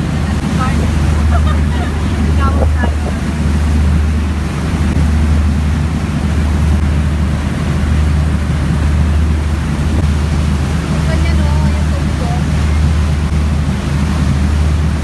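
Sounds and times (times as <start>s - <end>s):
ferry engine droning: 0.0s - 15.0s.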